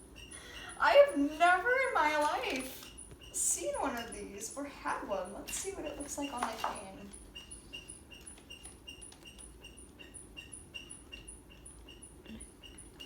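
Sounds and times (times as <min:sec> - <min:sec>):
ceiling fan squeaking: 0:00.0 - 0:13.0.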